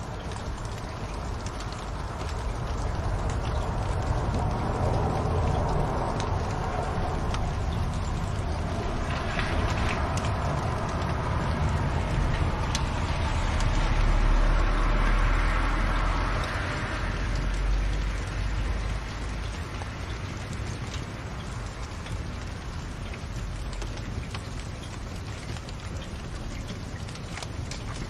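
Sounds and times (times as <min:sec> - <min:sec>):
fire crackling: 0:00.0 - 0:28.0
low rumble of fire: 0:00.0 - 0:28.0.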